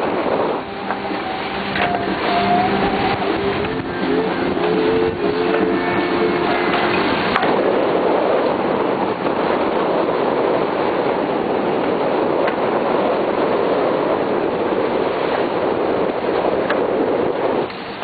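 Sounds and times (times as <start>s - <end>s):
wind and water rushing: 0.0s - 18.0s.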